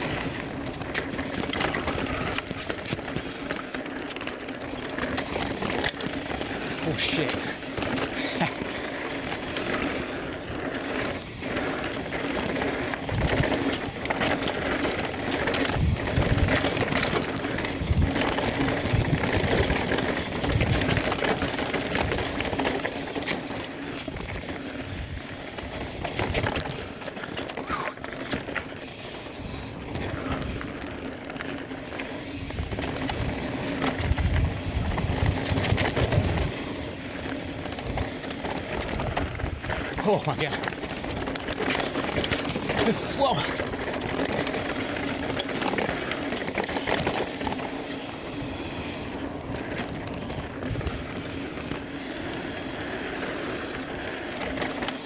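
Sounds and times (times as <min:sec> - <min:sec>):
bike rattling: 0:00.0 - 0:55.0
tyres rushing over dirt and rock: 0:00.0 - 0:55.0.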